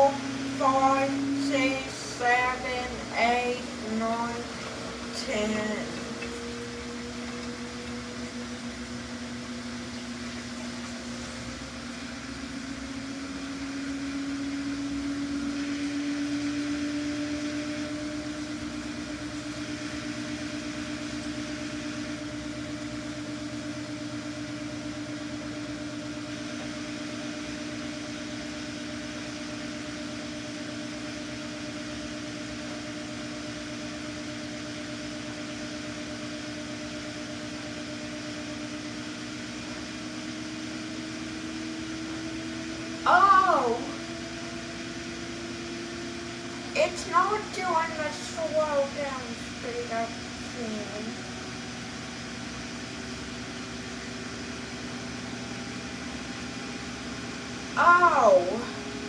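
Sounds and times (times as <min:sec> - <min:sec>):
washing machine drum spinning: 0:00.0 - 0:59.0.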